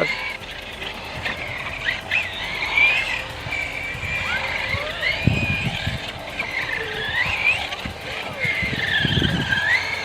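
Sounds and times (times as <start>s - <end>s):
rc car motor whining: 0.0s - 10.0s.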